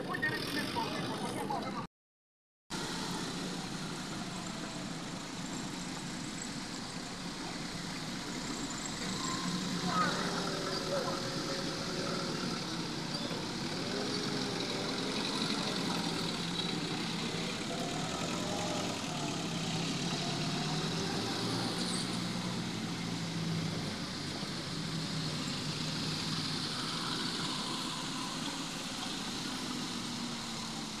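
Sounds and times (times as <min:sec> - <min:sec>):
engines humming: 0:00.0 - 0:01.9, 0:02.7 - 0:31.0
vehicles driving past: 0:00.0 - 0:01.9, 0:02.7 - 0:31.0.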